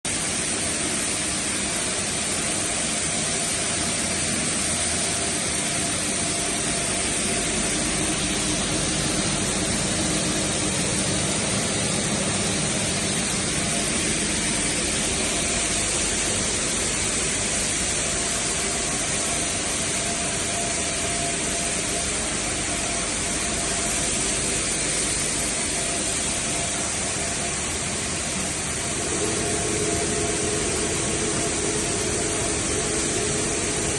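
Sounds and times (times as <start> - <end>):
high hiss: 0.1 - 33.9
machine mechanical drone: 0.1 - 33.9.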